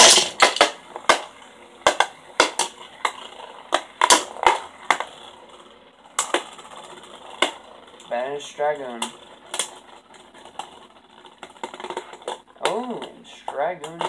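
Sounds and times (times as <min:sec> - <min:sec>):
spinning tops whirring: 0:00.0 - 0:14.0.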